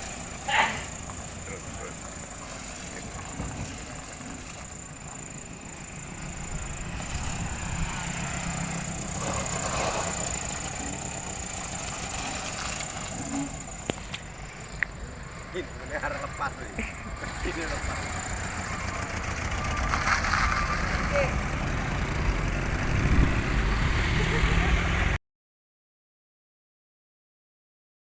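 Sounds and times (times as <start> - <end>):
car engine and road rumble: 0.0 - 25.2.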